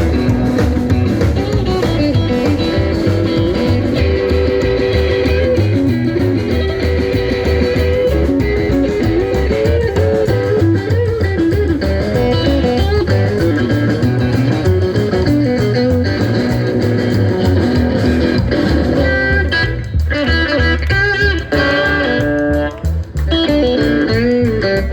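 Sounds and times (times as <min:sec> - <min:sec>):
drums: 0:00.0 - 0:24.9
electric guitar lead: 0:00.0 - 0:24.9
pulsing bass line: 0:00.0 - 0:24.9.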